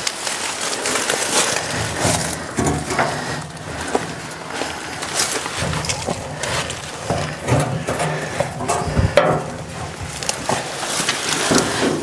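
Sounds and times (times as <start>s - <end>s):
rustling: 0.0s - 12.0s
scraping on machine: 1.2s - 12.0s.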